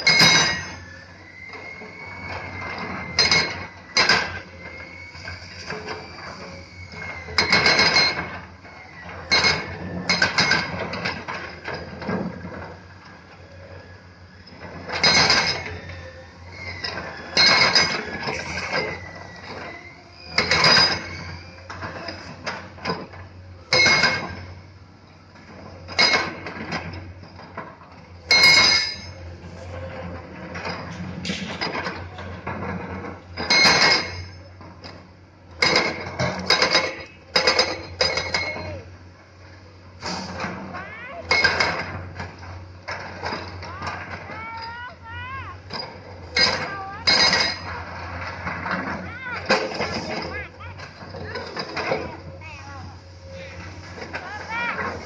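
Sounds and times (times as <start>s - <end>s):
excavator buckets clanking on stone: 0.0s - 13.5s, 14.3s - 55.0s
diesel engines running: 0.0s - 55.0s.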